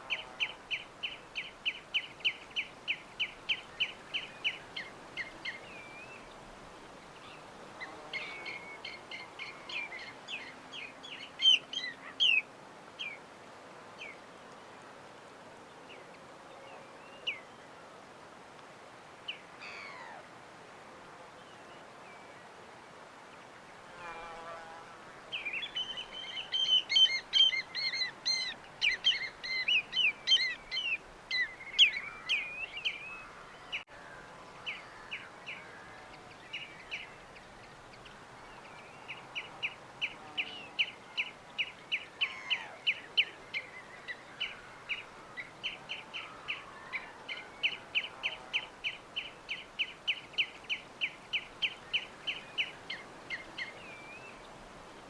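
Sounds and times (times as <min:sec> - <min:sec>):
songbirds singing: 0:00.0 - 0:14.3, 0:15.6 - 0:17.8, 0:19.1 - 0:20.2, 0:23.3 - 0:55.0
faint background hiss: 0:00.0 - 0:55.0.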